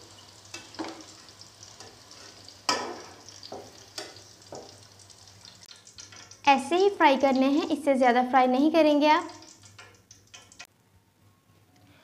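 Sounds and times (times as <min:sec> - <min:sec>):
potato sticks sizzling in oil: 0:00.0 - 0:07.9, 0:08.6 - 0:10.7.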